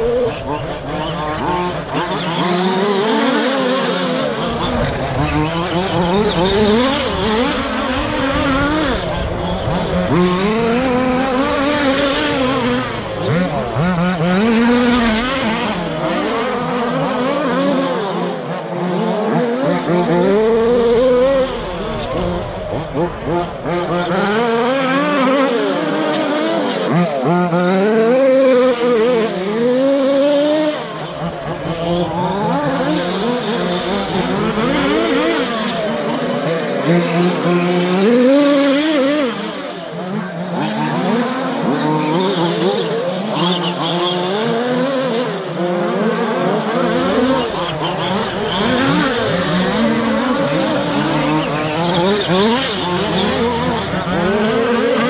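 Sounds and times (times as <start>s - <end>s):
rc truck motors whining: 0.0s - 55.0s.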